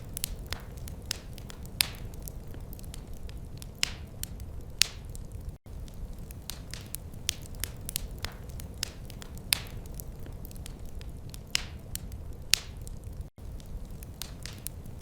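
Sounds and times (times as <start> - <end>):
fireplace fire crackling: 0.0 - 15.0
sharp snaps and pops: 0.0 - 15.0.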